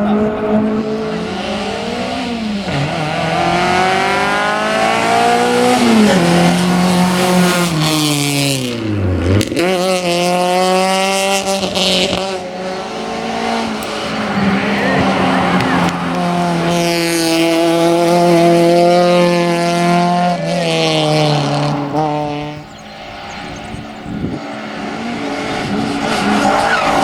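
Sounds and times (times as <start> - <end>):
car engine at full throttle: 0.0 - 27.0.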